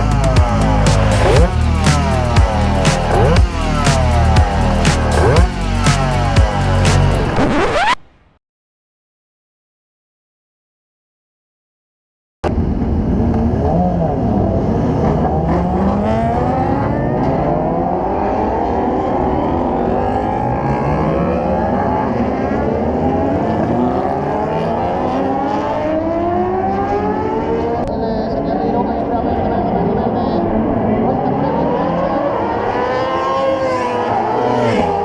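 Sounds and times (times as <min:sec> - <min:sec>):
motorcycles accelerating: 0:00.0 - 0:07.9, 0:13.3 - 0:35.0.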